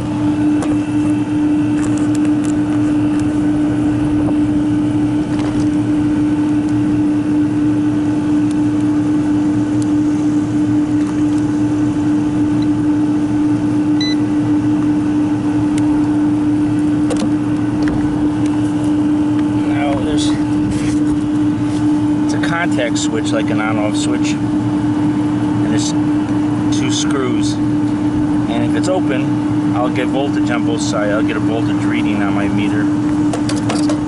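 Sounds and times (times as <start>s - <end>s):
machinery humming with low drone: 0.0s - 34.0s.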